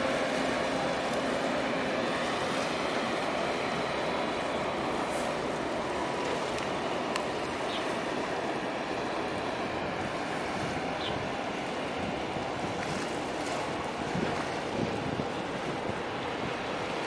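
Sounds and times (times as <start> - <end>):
sea water: 0.0 - 17.0
wind buffeting microphone: 0.0 - 17.0.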